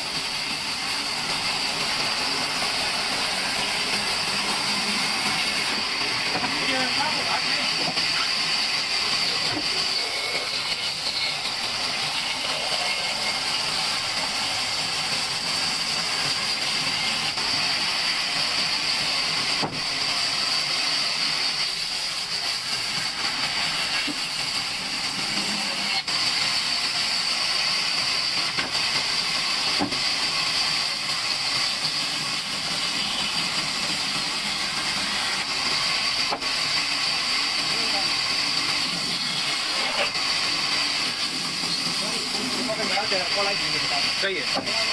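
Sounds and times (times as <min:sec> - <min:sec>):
band saw cutting log: 0:00.0 - 0:44.9.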